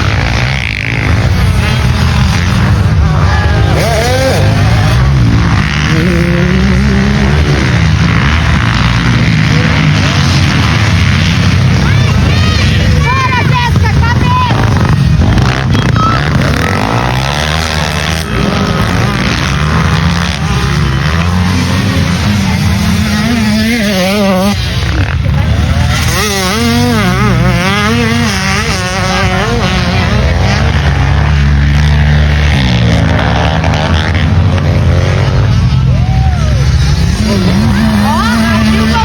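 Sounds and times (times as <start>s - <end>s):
motocross motorcycle engine revving: 0.0s - 39.0s.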